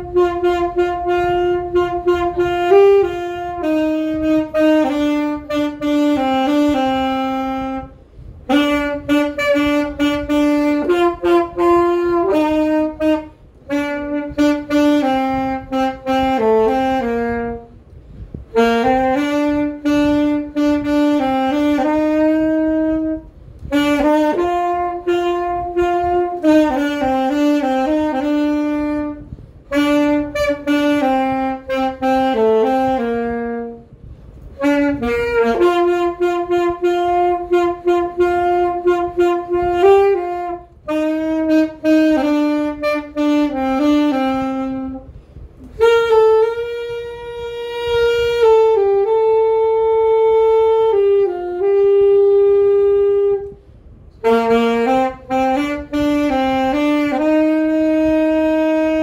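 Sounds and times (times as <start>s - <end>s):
alto saxophone slow melody: 0.0s - 59.0s.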